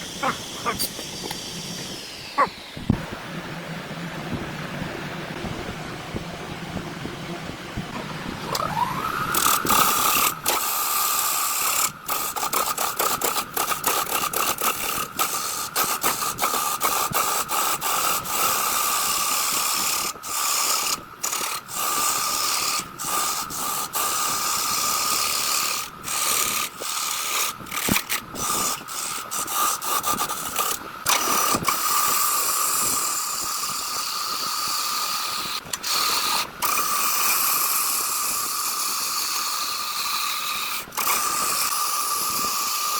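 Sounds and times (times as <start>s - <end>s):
power tool whining on wood: 0.0s - 5.3s, 7.9s - 42.9s.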